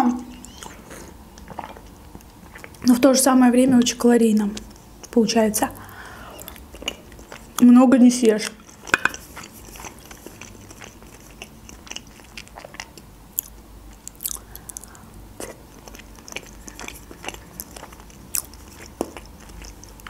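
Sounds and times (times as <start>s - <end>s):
wet chewing: 0.2s - 3.1s, 3.8s - 7.7s, 8.3s - 20.0s.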